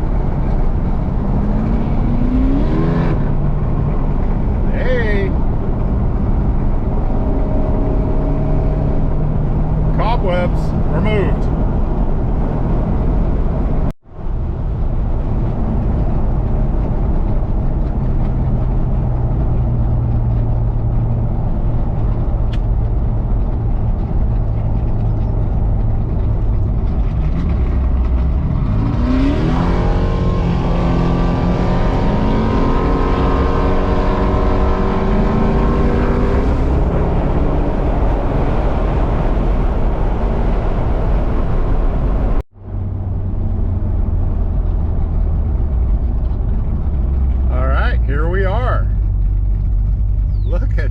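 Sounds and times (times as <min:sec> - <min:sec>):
car engine droning and revving: 0:00.0 - 0:50.9
road noise: 0:00.0 - 0:50.9.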